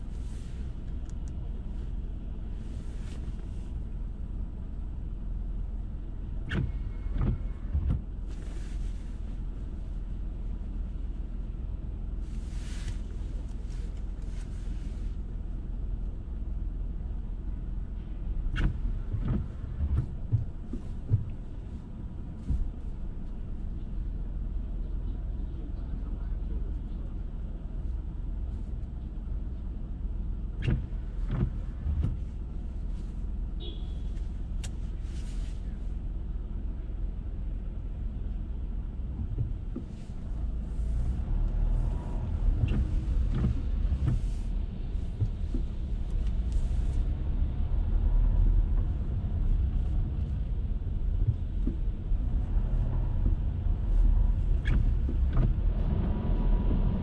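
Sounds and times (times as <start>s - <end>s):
car road rumble: 0.0s - 57.0s
tyres swishing on wet road: 0.0s - 57.0s.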